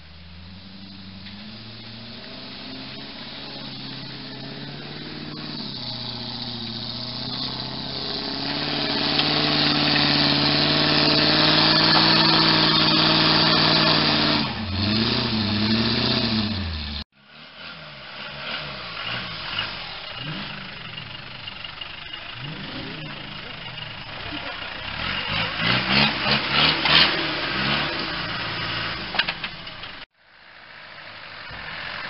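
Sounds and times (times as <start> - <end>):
truck engine revving: 0.0 - 30.1
tyre and dirt noise: 0.0 - 32.0.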